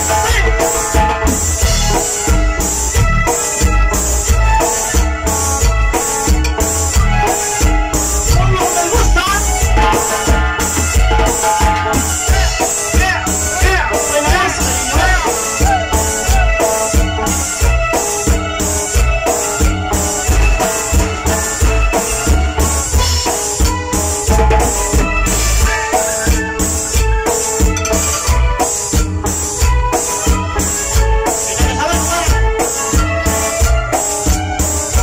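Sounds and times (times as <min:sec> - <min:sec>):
cumbia band playing: 0:00.0 - 0:35.0
steady drum beat: 0:00.0 - 0:35.0.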